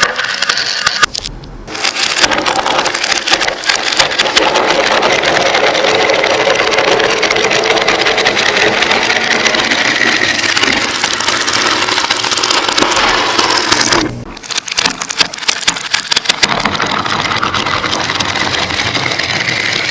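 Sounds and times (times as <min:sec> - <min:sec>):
glass marbles rolling and clattering: 0:00.0 - 0:19.9.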